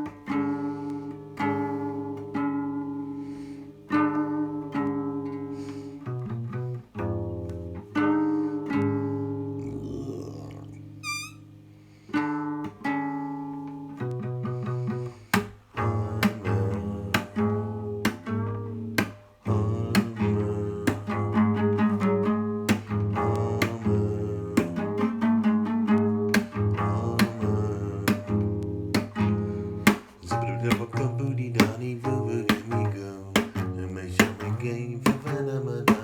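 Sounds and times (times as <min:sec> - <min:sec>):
plucked string notes: 0:00.0 - 0:36.0.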